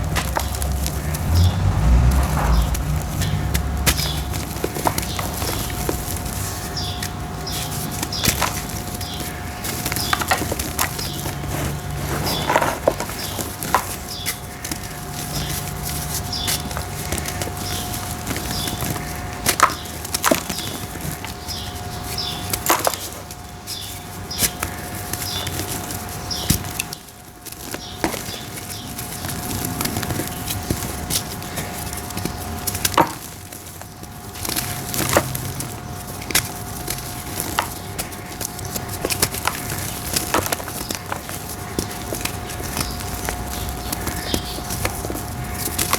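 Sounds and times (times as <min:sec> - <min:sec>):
dirt crumbling and crunching: 0:00.0 - 0:45.9.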